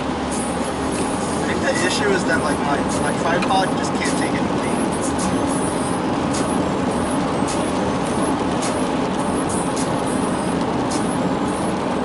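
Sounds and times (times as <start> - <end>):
road and engine noise inside car: 0.0 - 12.0.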